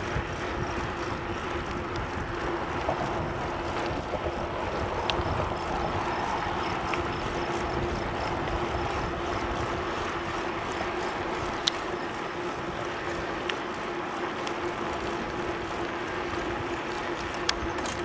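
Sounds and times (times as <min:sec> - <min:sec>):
faint constant hum: 0:00.0 - 0:18.0
wind and bicycle riding noise: 0:00.0 - 0:18.0.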